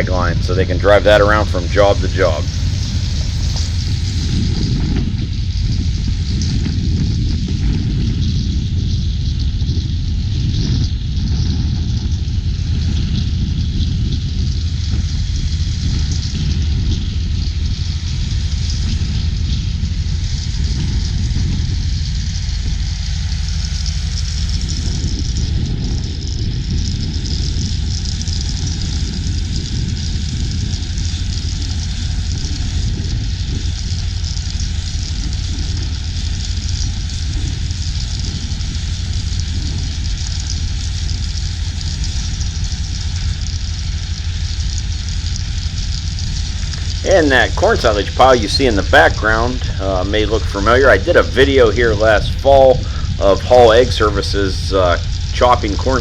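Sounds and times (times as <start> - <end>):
machine drone with low rumble: 0.0 - 56.0.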